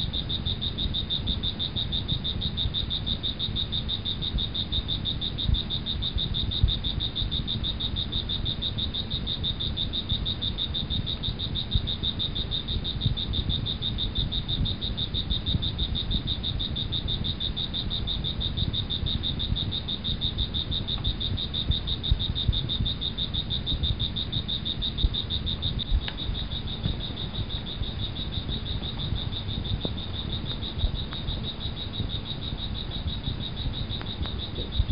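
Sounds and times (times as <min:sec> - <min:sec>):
pulsing insect trill: 0:00.0 - 0:34.9.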